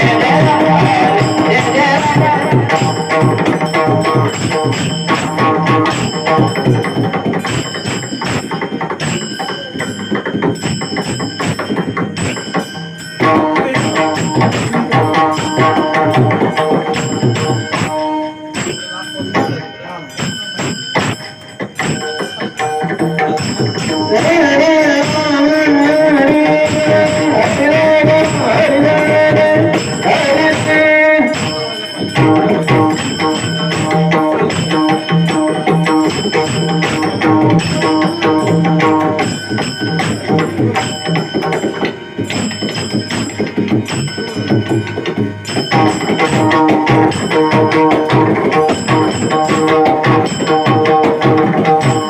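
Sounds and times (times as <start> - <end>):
devotional music: 0.0 - 52.0
pakhawaj drumming: 0.0 - 52.0
sustained instrumental tones: 0.0 - 52.0.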